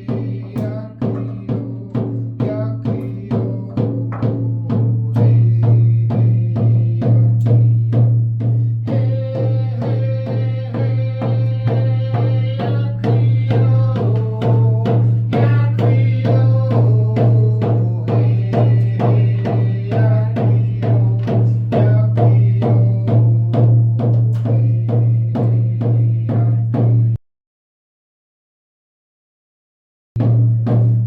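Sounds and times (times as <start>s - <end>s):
steady drum beat: 0.0s - 27.2s, 30.2s - 31.0s.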